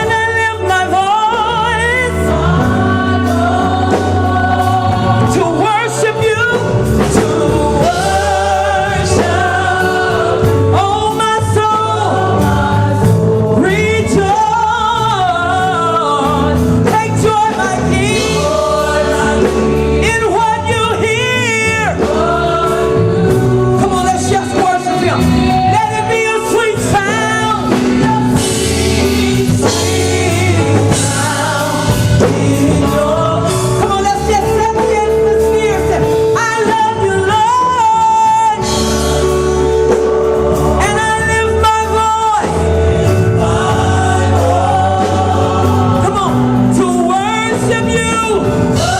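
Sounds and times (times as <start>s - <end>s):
keyboard and bass accompaniment: 0.0s - 48.9s
lead singer with vibrato: 0.0s - 48.9s.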